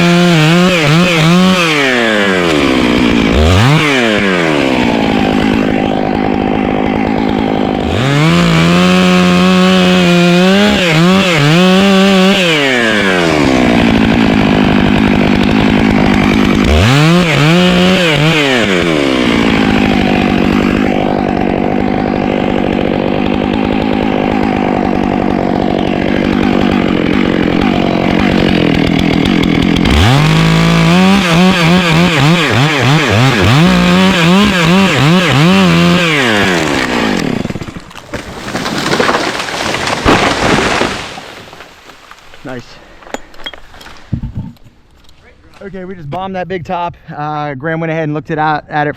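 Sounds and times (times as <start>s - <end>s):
chainsaw cutting wood: 0.0s - 45.8s.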